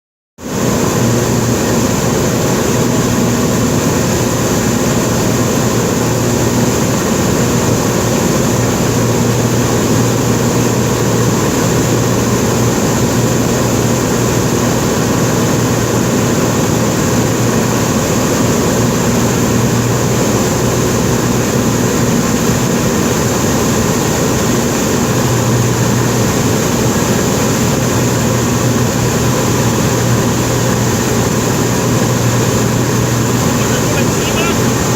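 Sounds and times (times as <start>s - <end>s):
propeller plane engine droning: 0.4s - 34.9s.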